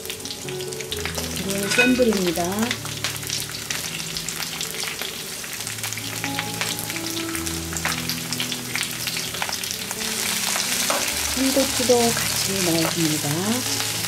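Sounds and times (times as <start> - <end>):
leek and onion sizzling in oil: 0.0 - 14.0.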